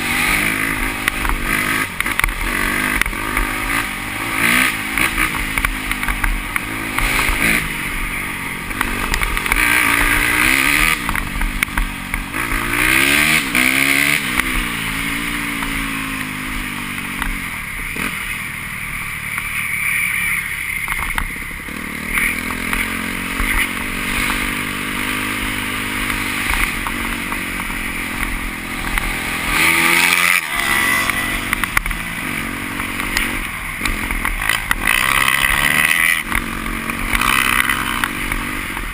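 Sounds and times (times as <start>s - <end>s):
motocross motorcycles revving: 0.0s - 38.9s.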